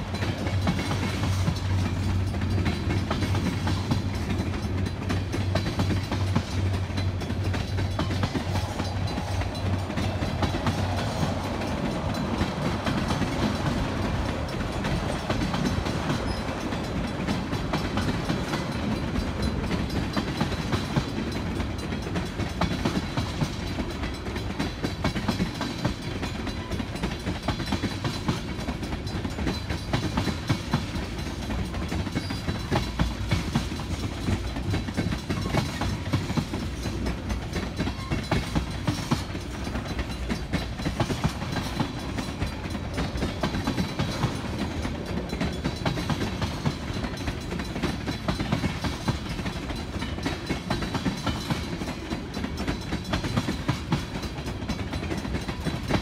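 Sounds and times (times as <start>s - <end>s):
freight train rumble: 0.0s - 56.0s
wheels clicking over rail joints: 0.0s - 56.0s.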